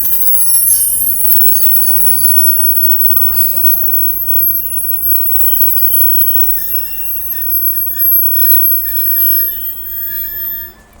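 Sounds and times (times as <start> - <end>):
low train rumble: 0.0 - 11.0
train brakes squealing: 0.0 - 11.0.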